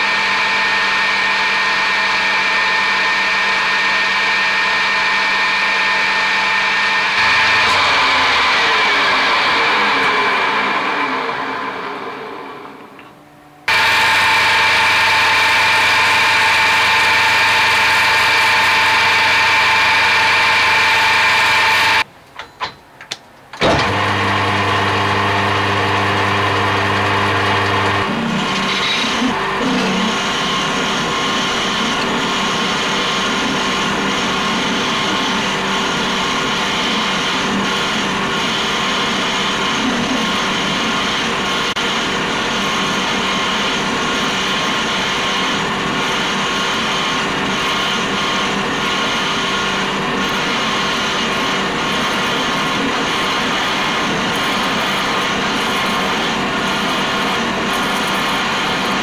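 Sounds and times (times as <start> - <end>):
metal lathe running: 0.0 - 13.1, 13.7 - 22.1, 23.6 - 59.0.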